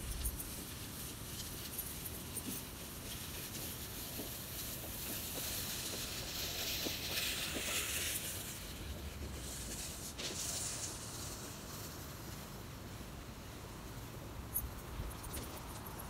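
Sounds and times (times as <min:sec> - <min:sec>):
soft outdoor hiss: 0:00.0 - 0:16.0.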